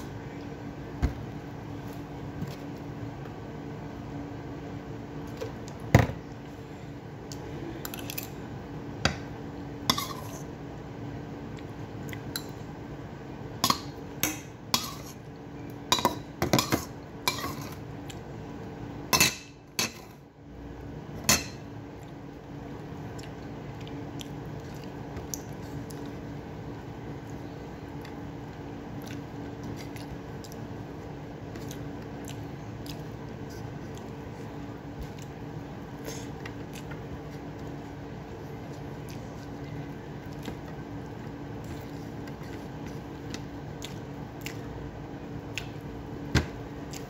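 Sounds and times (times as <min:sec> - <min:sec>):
steady background hum: 0:00.0 - 0:47.0.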